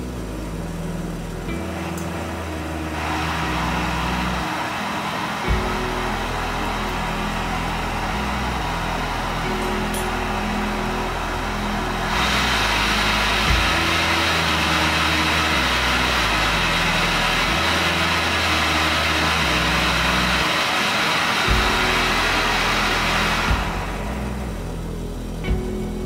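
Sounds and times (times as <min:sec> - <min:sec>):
gas stove hissing: 0:00.0 - 0:26.0.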